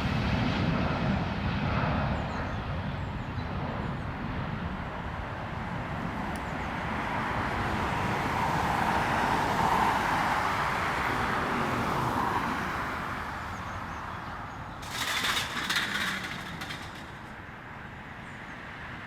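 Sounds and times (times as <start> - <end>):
jet engines roaring on takeoff: 0.0 - 19.0.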